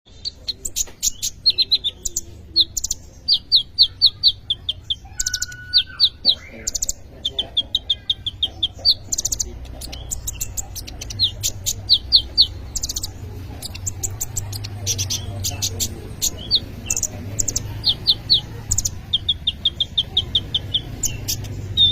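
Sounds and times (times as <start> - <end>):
sunbird singing high chirps: 0.1 - 21.9.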